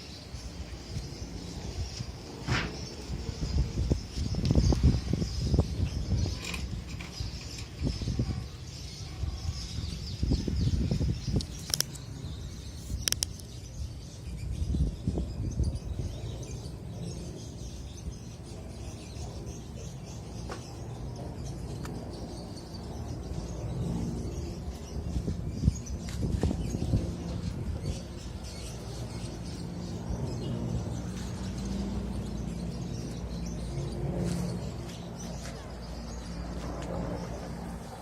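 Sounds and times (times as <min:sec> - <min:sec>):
low rumble on microphone: 0:00.3 - 0:38.0.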